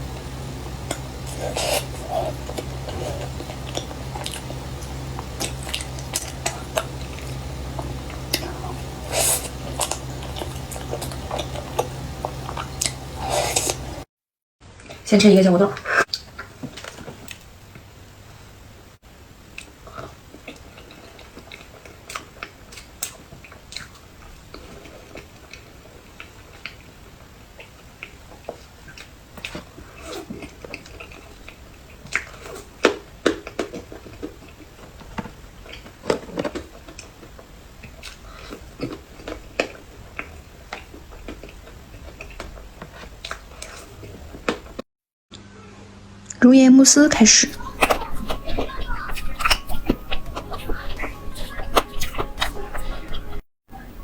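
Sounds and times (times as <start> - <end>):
chewing and wet mouth sounds: 0.0 - 14.0, 19.5 - 44.6, 47.2 - 53.4.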